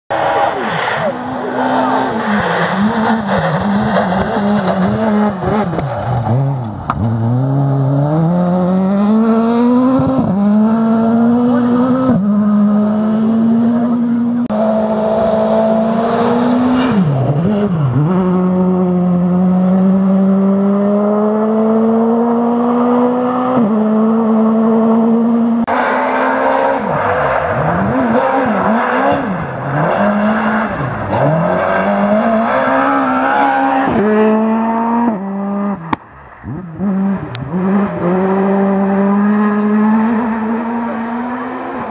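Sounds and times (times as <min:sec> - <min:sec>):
rally car engine at full throttle: 0:00.1 - 0:41.9.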